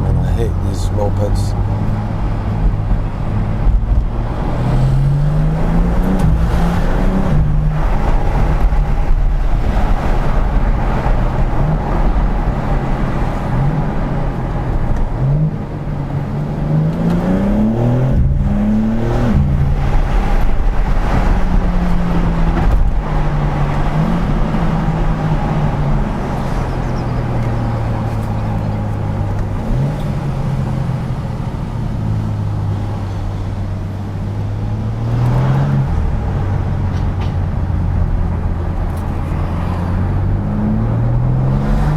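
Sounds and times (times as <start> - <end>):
car engine accelerating through gears: 0.0 - 41.9.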